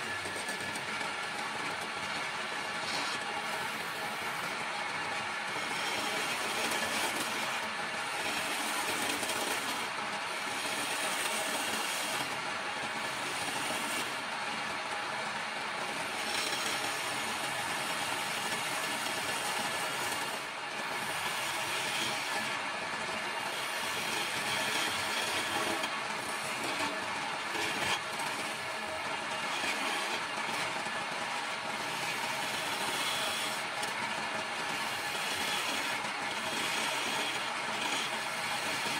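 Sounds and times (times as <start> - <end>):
lathe motor drone: 0.0 - 14.8, 16.0 - 38.9
tool scraping spinning wood: 0.0 - 38.9.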